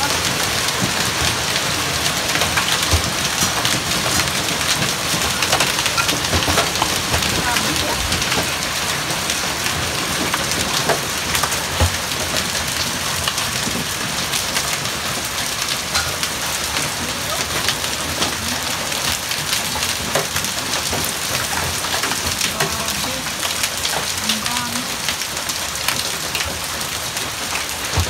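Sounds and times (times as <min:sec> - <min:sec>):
hail and rain on paving: 0:00.0 - 0:28.0.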